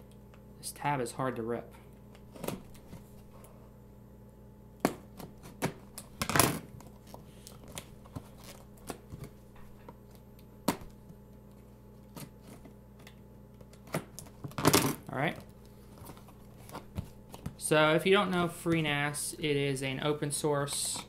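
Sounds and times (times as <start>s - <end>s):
refrigerator humming: 0.0s - 21.0s.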